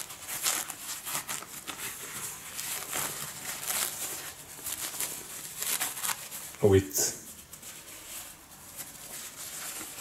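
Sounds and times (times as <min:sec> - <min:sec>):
paper and plastic crinkling: 0:00.0 - 0:10.0.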